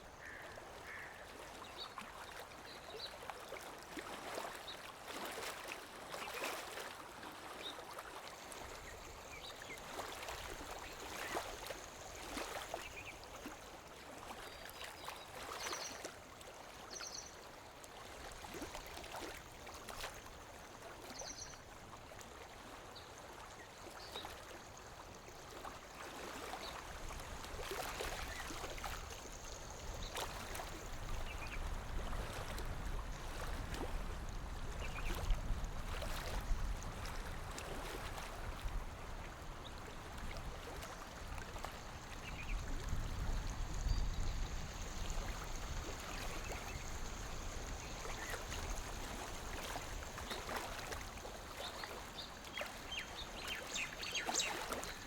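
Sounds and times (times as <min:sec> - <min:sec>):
water lapping against shore: 0:00.0 - 0:55.0.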